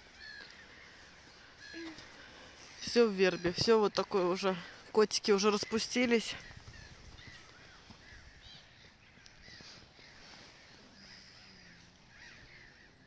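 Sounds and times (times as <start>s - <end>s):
distant birds calling: 0.0s - 13.0s.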